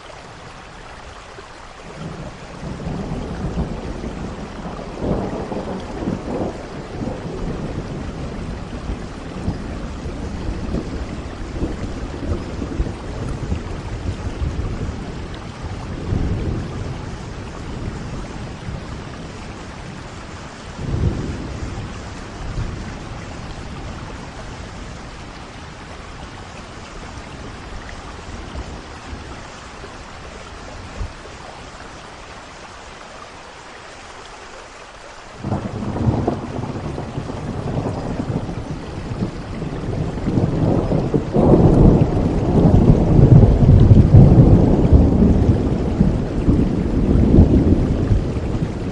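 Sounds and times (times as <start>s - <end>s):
steady rain falling: 0.0s - 48.9s
thunder rumbling: 1.9s - 32.1s, 35.4s - 48.9s.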